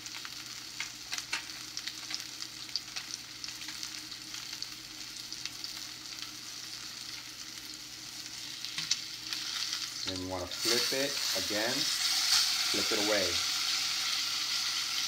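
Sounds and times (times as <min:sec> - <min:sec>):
fish sizzling in a frying pan: 0:00.0 - 0:15.0.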